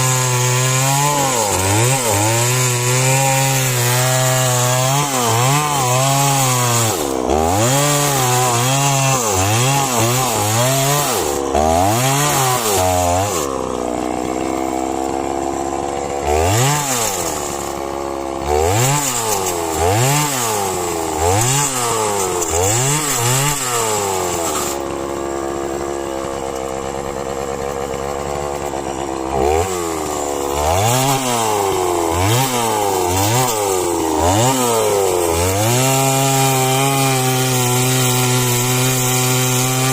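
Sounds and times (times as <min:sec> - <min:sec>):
chainsaw cutting a tree: 0:00.0 - 0:39.9.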